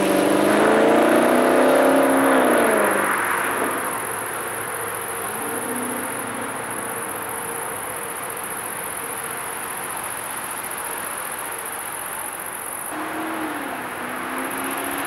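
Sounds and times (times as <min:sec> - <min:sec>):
insects chirring: 0:00.5 - 0:15.0.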